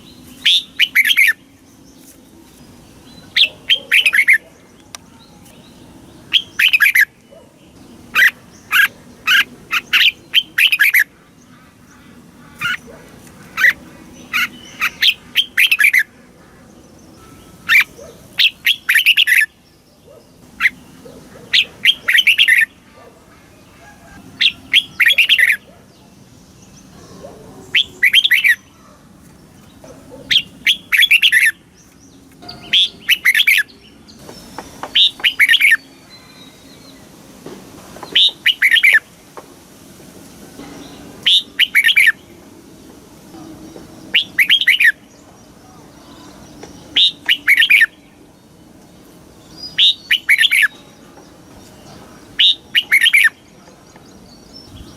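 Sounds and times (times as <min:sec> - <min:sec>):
bulbul chirping song: 0:00.0 - 0:29.0, 0:29.6 - 0:37.1, 0:38.0 - 0:39.2, 0:40.6 - 0:54.9.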